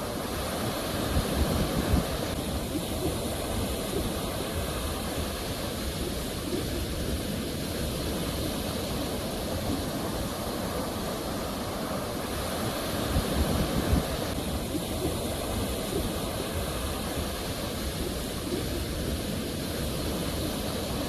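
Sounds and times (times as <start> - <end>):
sea waves washing on shore: 0.0 - 21.0.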